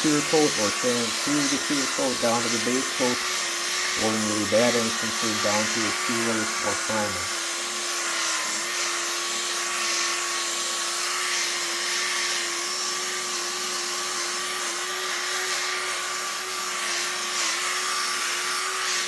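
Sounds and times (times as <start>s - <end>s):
rotary buffer motor whine: 0.0s - 19.0s.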